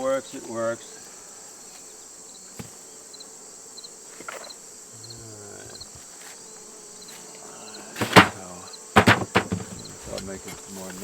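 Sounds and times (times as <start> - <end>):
insect drone: 0.0 - 11.0
insect paired chirps: 0.0 - 11.0.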